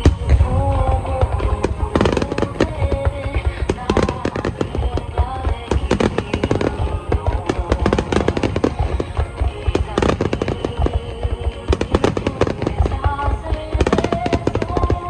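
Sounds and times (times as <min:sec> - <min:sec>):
fireworks bursting: 0:00.0 - 0:15.0
fireworks crackling: 0:00.0 - 0:15.0
music with a melody: 0:00.0 - 0:15.0.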